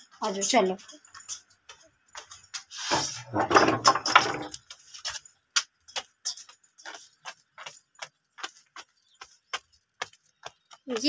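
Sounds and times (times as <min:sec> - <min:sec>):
light footsteps: 0:00.0 - 0:03.4, 0:04.3 - 0:11.0.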